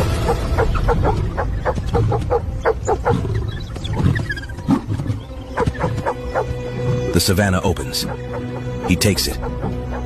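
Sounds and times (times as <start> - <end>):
wild dogs yelping: 0.0 - 7.0, 7.9 - 10.0.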